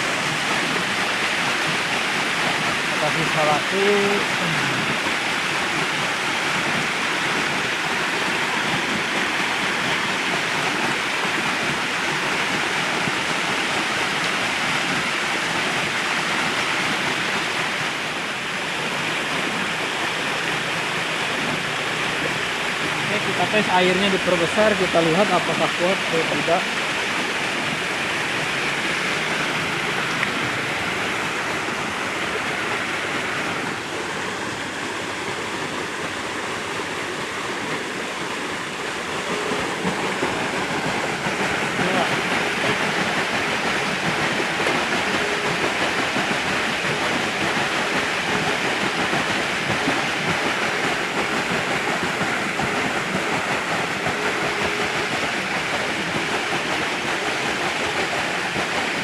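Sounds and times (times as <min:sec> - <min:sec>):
rushing water: 0:00.0 - 0:59.0
water wheel running: 0:00.0 - 0:59.0.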